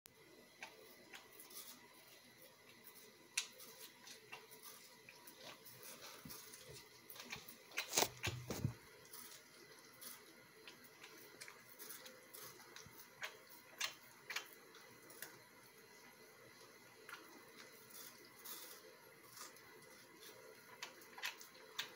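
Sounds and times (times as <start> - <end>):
puppy chewing watermelon rind: 0.4 - 21.9.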